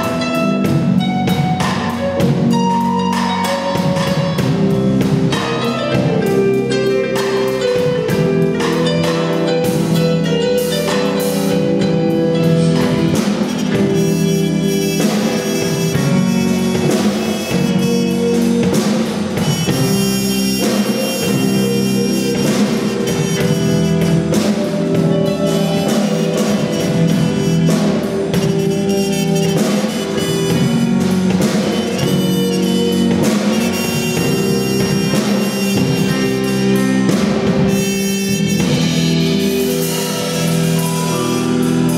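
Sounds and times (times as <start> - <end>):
drum kit: 0.0 - 41.9
electric bass: 0.0 - 41.9
trumpet lead: 0.0 - 41.9.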